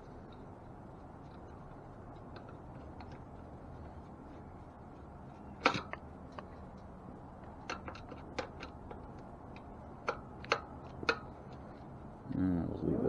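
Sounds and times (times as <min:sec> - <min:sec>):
clicks and taps on bicycle wheel: 0:00.0 - 0:12.2.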